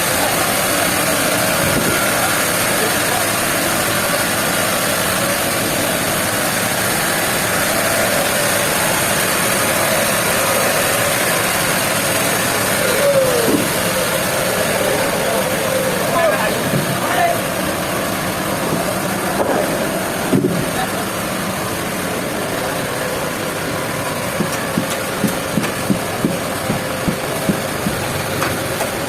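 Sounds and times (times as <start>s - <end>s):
sawmill machinery running: 0.0s - 29.0s.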